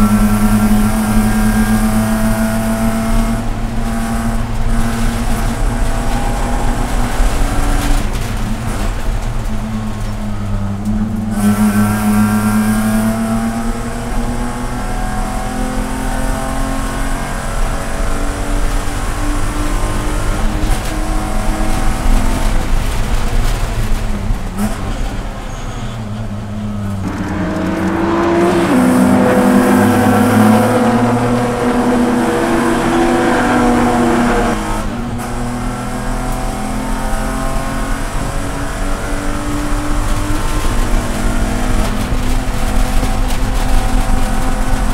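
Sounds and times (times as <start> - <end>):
race car engine accelerating: 0.0 - 25.0, 26.0 - 44.9.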